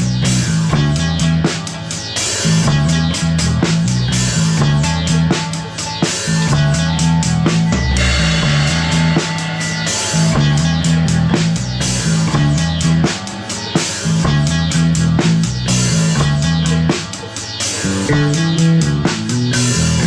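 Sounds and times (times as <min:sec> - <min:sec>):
bass line: 0:00.0 - 0:01.8, 0:02.4 - 0:17.1, 0:17.8 - 0:20.0
drum kit beat: 0:00.0 - 0:20.0
guitar: 0:00.0 - 0:20.0.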